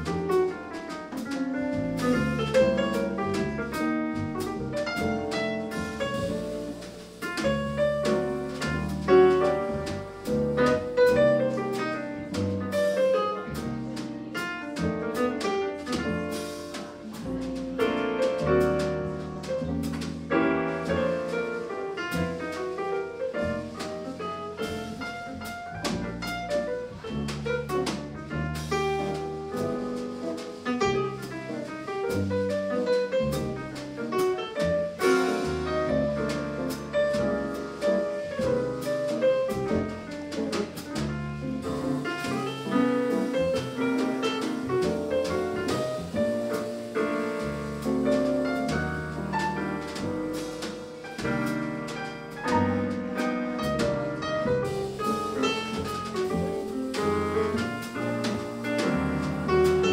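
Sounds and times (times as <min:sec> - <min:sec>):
drum kit: 0:00.0 - 0:59.9
keyboard piano: 0:00.0 - 0:59.9
upright double bass: 0:00.0 - 0:59.9.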